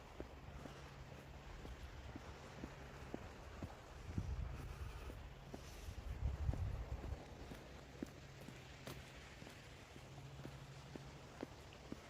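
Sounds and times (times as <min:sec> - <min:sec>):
faint footsteps: 0:00.0 - 0:12.0.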